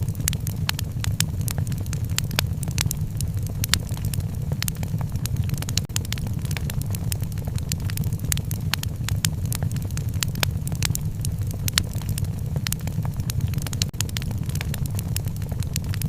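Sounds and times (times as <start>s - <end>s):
low rumble: 0.0s - 16.0s
wood fire crackling: 0.0s - 16.0s.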